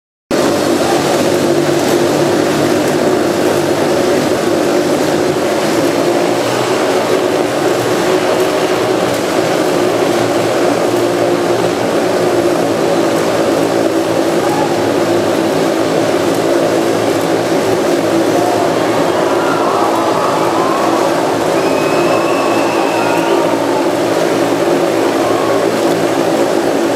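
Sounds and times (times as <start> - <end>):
motorcycle engines running loud: 0.3 - 26.9.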